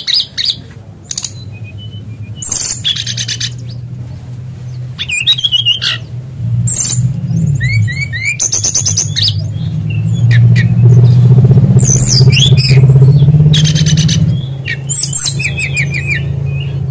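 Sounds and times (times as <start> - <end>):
bird singing whistled song: 0.0 - 3.8, 5.0 - 6.1, 6.7 - 16.9
steady low hum: 0.0 - 16.9.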